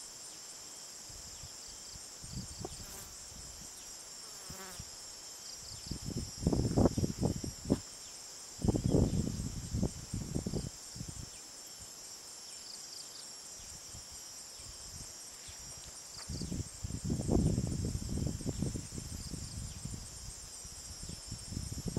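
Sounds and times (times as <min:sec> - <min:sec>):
insects chorus: 0:00.0 - 0:21.9.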